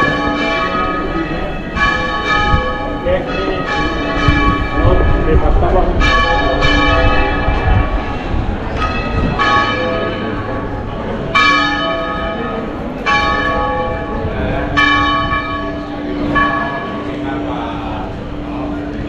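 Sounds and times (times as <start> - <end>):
church bell ringing: 0.0 - 19.0.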